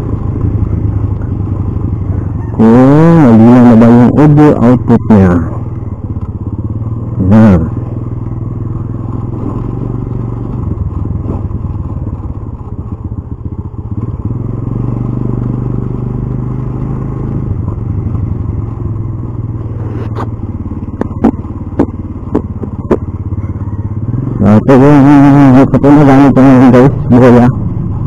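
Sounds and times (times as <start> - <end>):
motorcycle engine droning: 0.0 - 28.0.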